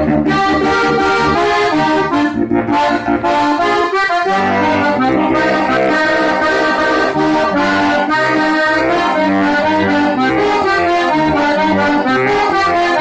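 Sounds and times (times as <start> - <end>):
accordion folk tune: 0.0 - 13.0.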